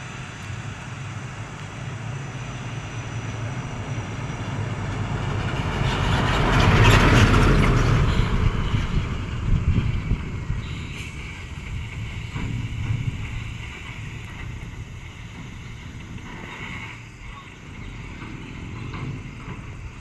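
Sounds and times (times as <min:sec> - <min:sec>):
heavy truck driving past: 0:00.0 - 0:20.0.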